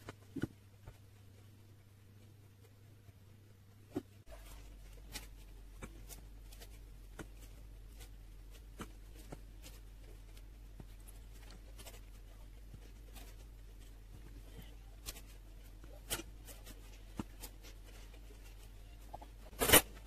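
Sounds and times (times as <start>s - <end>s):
steady low hum: 0.0s - 20.0s
bananas being peeled: 3.9s - 20.0s.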